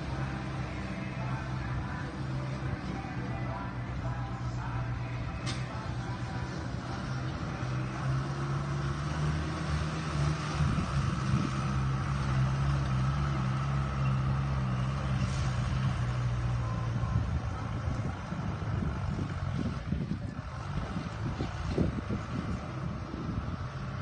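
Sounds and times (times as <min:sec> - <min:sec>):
truck engine under load: 0:00.0 - 0:24.0.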